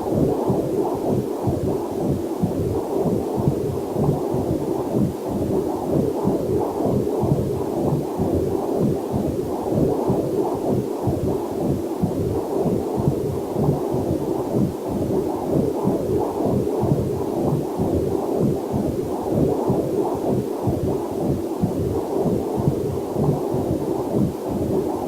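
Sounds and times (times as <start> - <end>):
fetal heartbeat whooshing pulses: 0.0 - 25.0.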